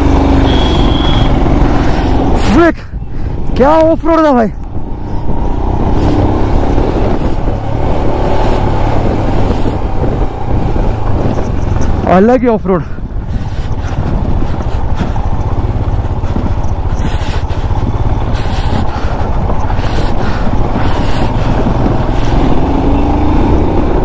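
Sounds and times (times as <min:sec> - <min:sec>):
motorcycle engine running: 0:00.0 - 0:24.0
tyres on gravel track: 0:00.0 - 0:24.0.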